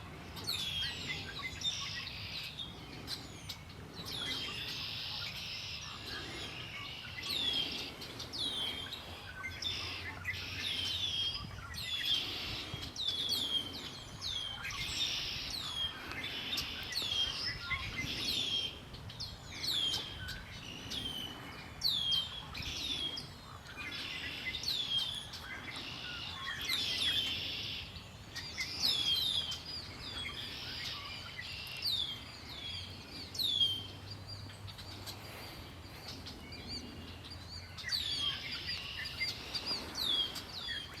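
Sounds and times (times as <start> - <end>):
songbirds chirping and singing: 0.0 - 41.0.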